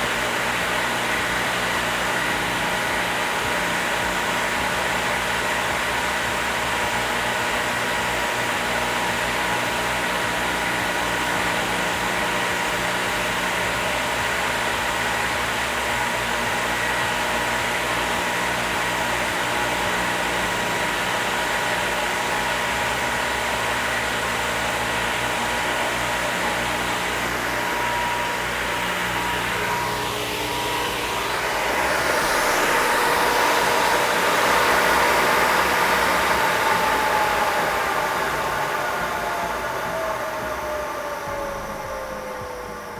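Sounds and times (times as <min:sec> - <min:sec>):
planer running with high whine: 0:00.0 - 0:42.9.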